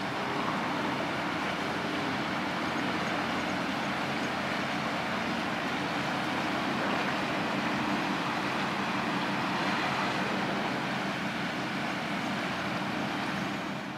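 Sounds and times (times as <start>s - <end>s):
boat diesel engine droning: 0.0s - 13.9s.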